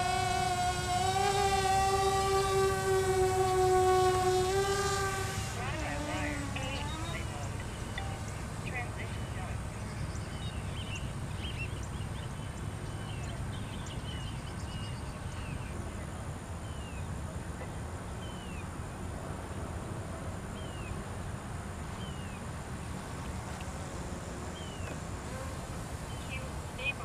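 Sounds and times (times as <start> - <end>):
birds chirping: 0.0 - 19.0, 20.5 - 21.2, 21.8 - 27.0
low wind rumble: 0.0 - 27.0.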